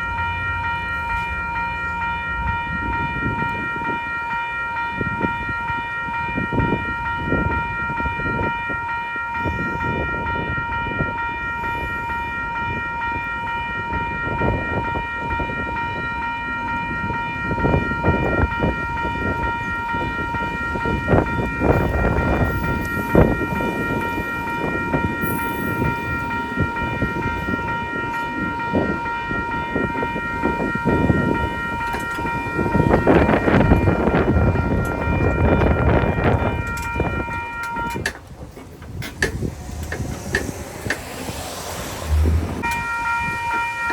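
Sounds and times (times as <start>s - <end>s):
high ringing tone: 0.0s - 38.1s
train passing: 0.0s - 43.9s
wind buffeting microphone: 2.2s - 43.9s.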